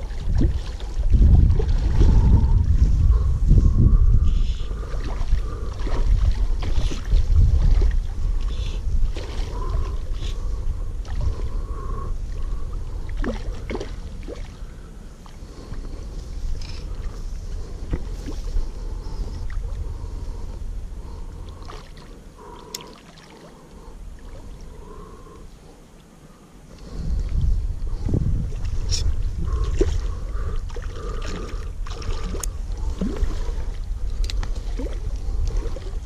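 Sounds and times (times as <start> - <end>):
wind buffeting microphone: 0.0 - 21.6, 26.8 - 36.0.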